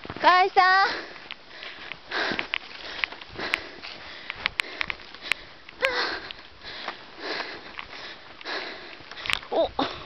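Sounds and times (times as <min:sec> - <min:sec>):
person breathing hard: 0:00.8 - 0:10.0.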